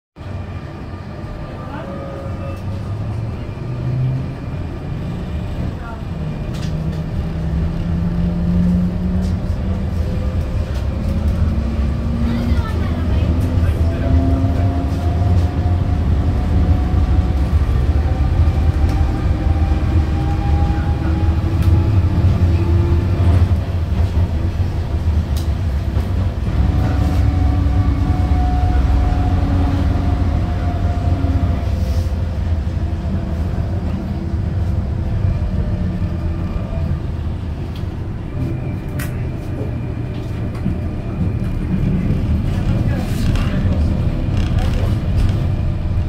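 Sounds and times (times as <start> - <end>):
tram rumbling: 0.2 - 46.0.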